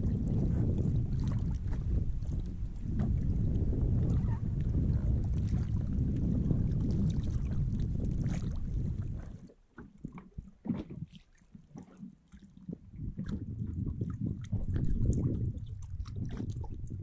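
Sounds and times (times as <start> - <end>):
water splashing and lapping: 0.0 - 17.0
wind rumbling on microphone: 0.0 - 17.0.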